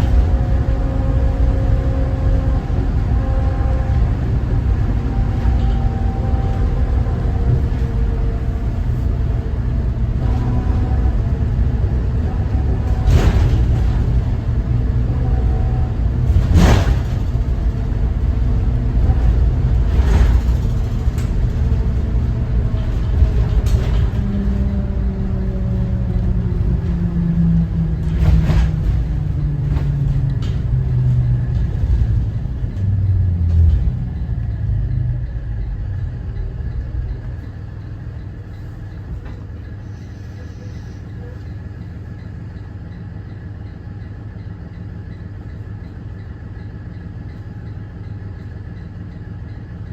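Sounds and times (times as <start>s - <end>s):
bus diesel engine rumble: 0.0s - 49.9s.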